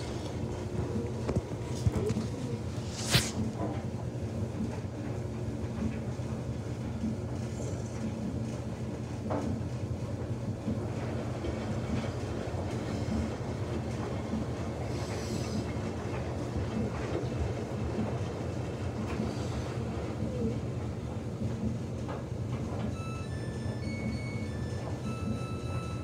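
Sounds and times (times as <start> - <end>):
washing machine rumble and hum: 0.0 - 26.0.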